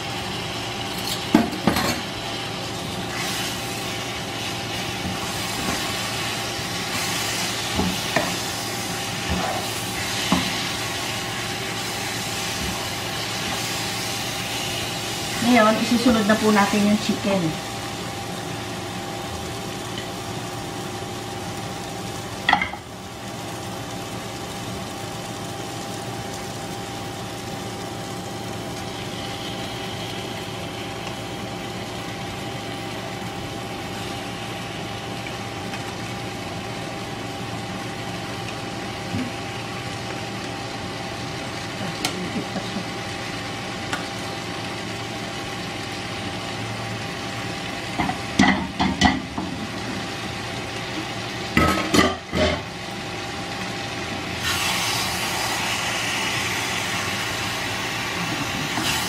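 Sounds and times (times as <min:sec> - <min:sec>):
masala sizzling in a wok: 0:00.0 - 0:59.0.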